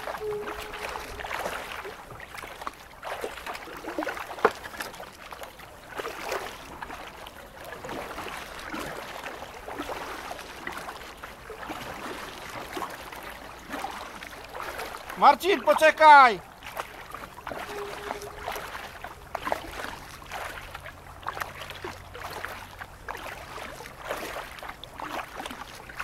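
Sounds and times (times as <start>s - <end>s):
paddle splashing water: 0.0s - 26.0s.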